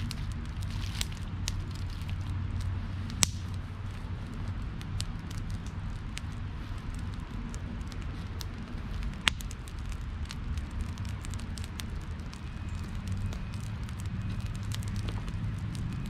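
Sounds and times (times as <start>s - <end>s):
campfire crackling and popping: 0.0s - 16.0s
steady low rumble: 0.0s - 16.0s.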